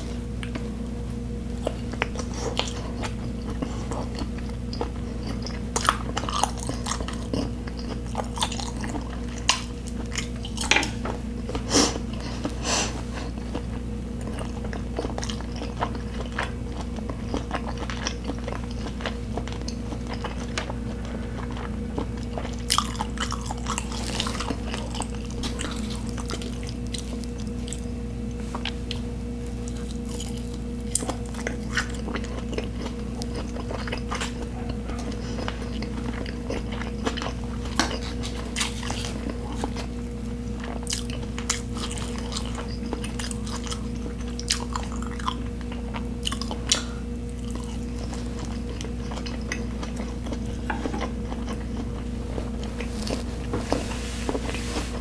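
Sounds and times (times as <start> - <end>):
chewing and biting food: 1.5 - 55.0.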